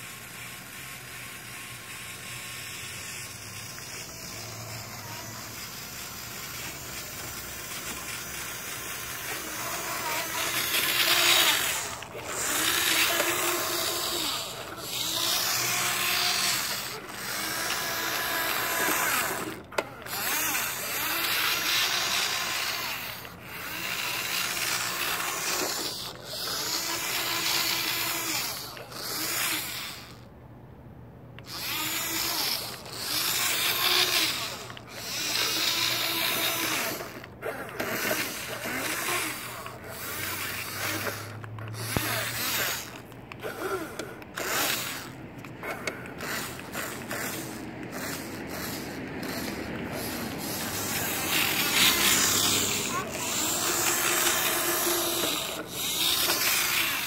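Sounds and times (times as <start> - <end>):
toy truck motor whirring: 0.0 - 30.4, 31.2 - 57.0
tyres grinding on asphalt: 1.4 - 30.3, 31.4 - 57.0.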